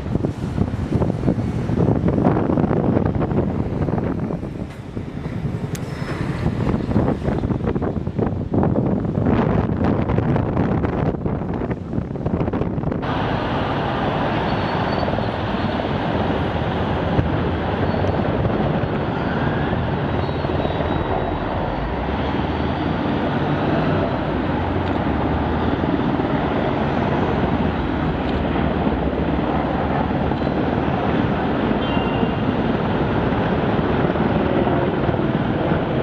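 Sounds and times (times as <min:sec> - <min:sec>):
helicopter flying over: 0:00.0 - 0:36.0.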